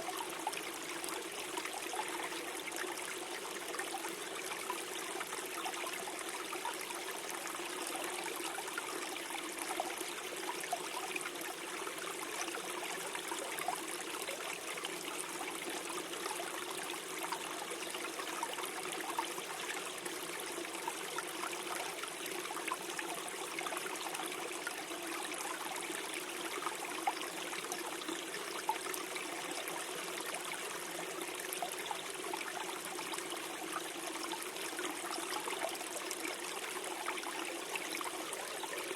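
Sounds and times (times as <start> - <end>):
stream gurgling over stones: 0.0 - 38.9.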